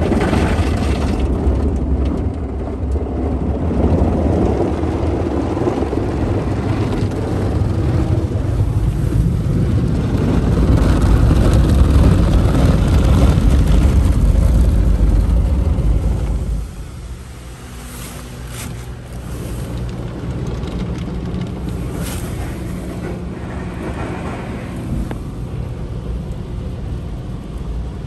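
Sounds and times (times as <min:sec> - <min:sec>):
car wash spray jets: 0:02.3 - 0:28.0
steady hum: 0:02.6 - 0:28.0.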